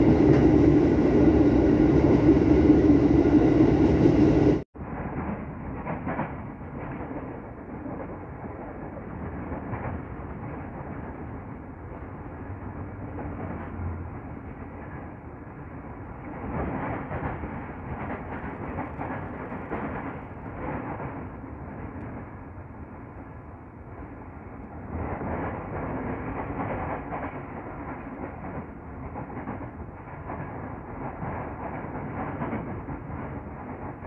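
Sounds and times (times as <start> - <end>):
train wheels rumbling on rails: 0.0 - 23.2, 23.8 - 34.0.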